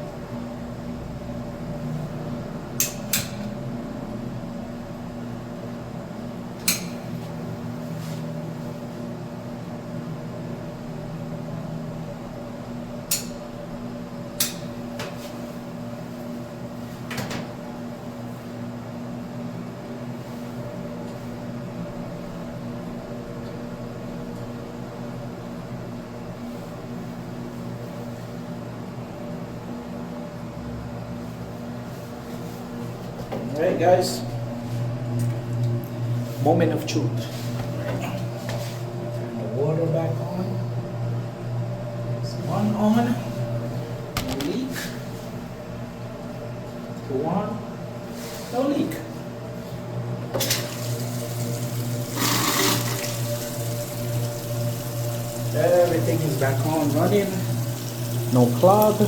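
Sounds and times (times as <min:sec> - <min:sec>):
mechanical hum: 0:00.0 - 0:59.0.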